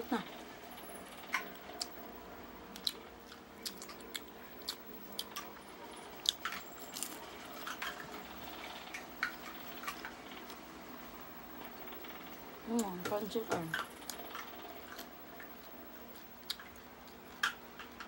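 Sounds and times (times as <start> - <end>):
crunchy chewing: 1.0 - 13.0, 13.7 - 18.0.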